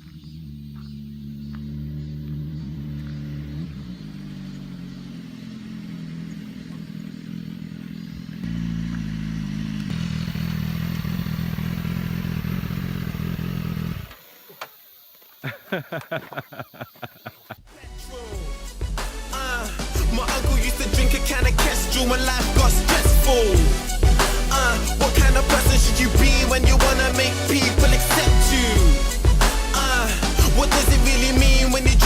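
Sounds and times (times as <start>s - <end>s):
motorcycle engine running: 0.0s - 14.2s, 18.4s - 32.0s.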